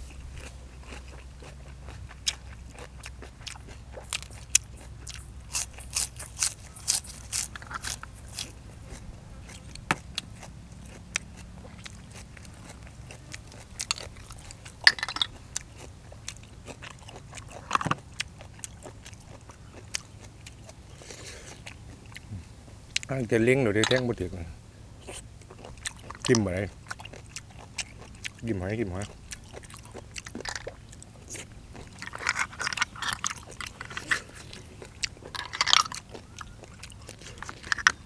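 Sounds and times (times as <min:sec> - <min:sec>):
person chewing and crunching: 0:00.0 - 0:38.0.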